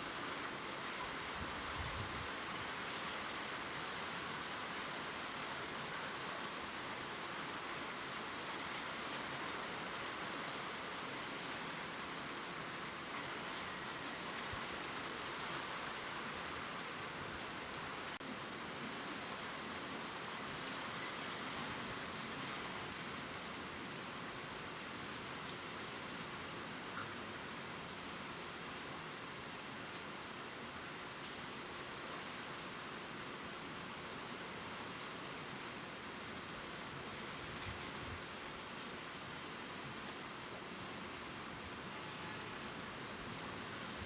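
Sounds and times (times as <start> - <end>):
gentle rain on leaves: 0.0 - 44.0.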